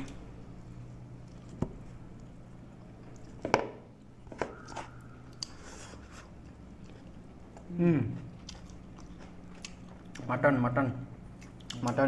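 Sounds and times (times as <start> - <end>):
people eating with hands: 0.0 - 12.0.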